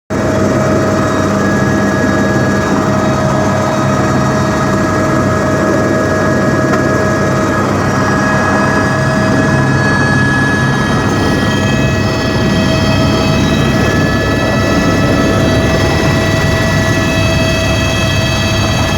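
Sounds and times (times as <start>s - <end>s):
helicopter engine and rotor: 0.1s - 18.9s
high whine: 0.2s - 18.9s.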